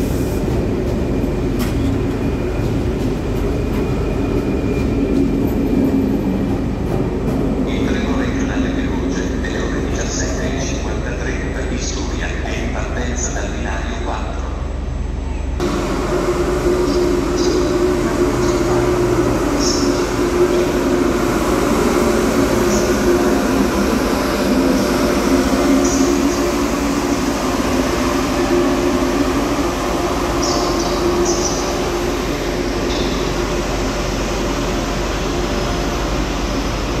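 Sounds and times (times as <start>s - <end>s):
electric train humming: 0.0s - 37.0s.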